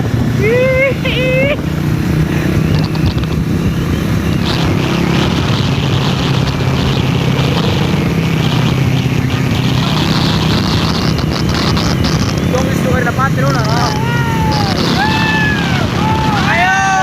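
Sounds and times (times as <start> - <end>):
motorcycle engines running: 0.0 - 17.0
road noise: 0.0 - 17.0
wind rushing: 0.0 - 17.0.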